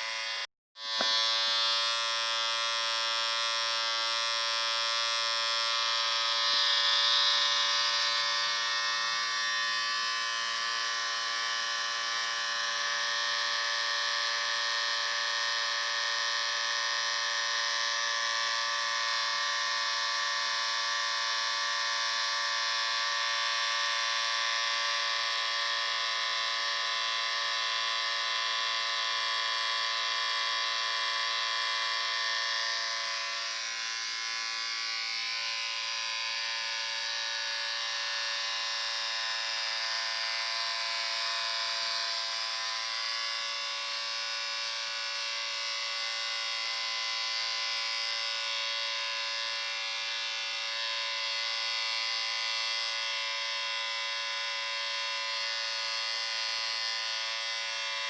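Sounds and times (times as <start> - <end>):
electric shaver buzzing: 0.0 - 58.0.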